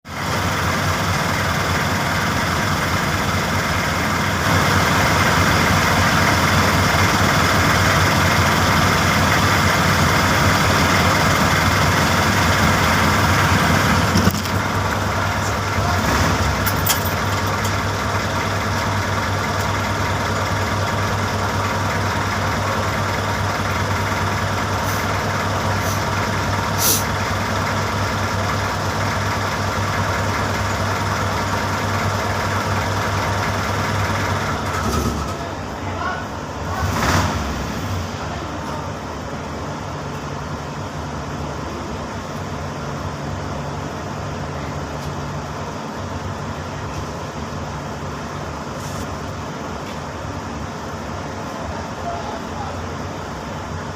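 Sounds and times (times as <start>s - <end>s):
vehicle engine idling: 0.1s - 53.9s.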